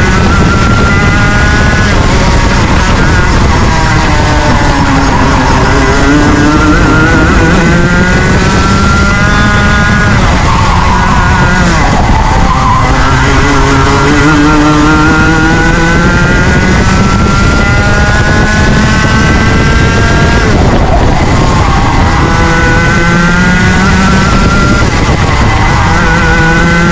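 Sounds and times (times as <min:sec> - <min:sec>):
kart engine revving: 0:00.0 - 0:26.9.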